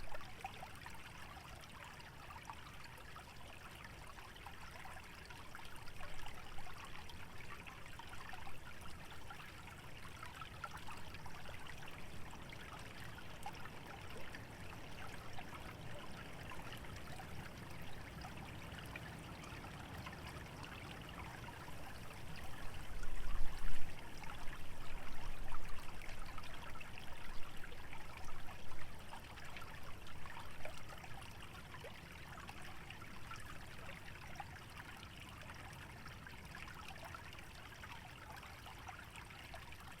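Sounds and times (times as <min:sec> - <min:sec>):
stream trickling: 0:00.0 - 0:40.0.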